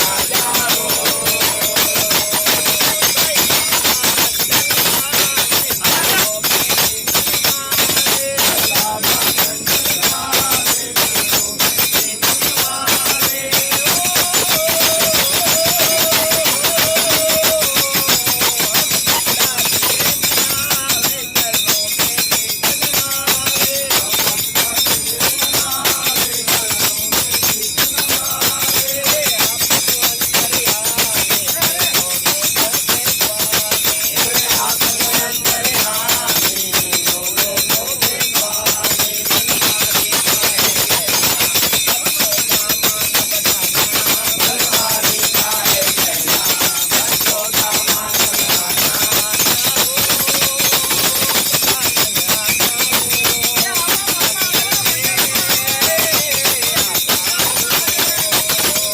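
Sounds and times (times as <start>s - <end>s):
jingling hand percussion: 0.0s - 58.9s
voices singing: 0.0s - 58.9s.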